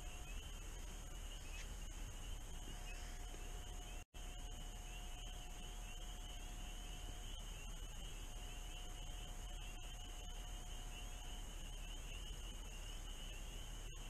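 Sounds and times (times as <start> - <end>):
spring peepers chorus trilling: 0.0 - 14.0.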